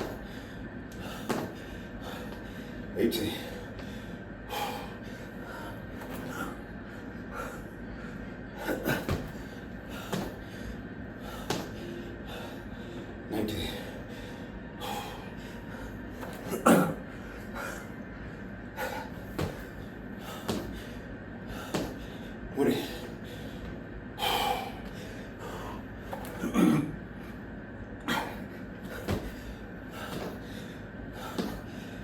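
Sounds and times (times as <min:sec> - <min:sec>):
man breathing hard: 0:00.0 - 0:32.0.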